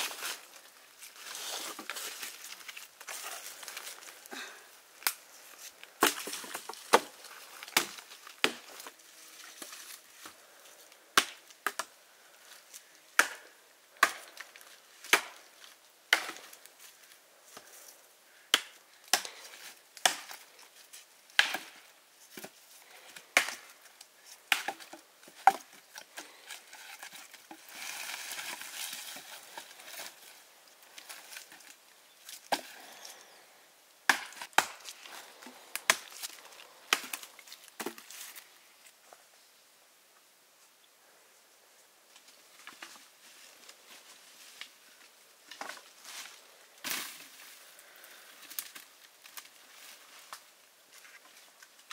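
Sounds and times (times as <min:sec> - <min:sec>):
soft steady noise: 0:00.0 - 0:51.9.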